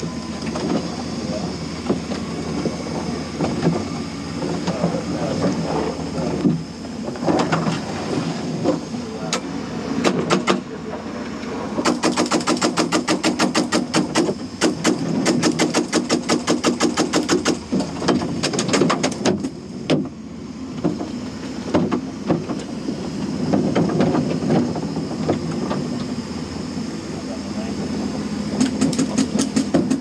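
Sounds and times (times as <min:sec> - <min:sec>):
tank engine running: 0:00.0 - 0:30.0.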